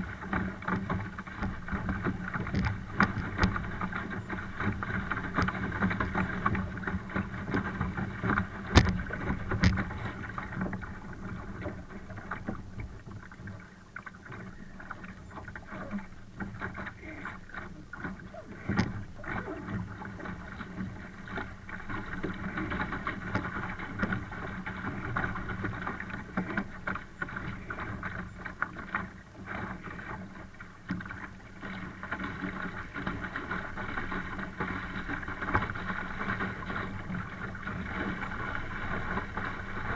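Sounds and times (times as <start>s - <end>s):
water splashing against a hull: 0.0s - 39.9s.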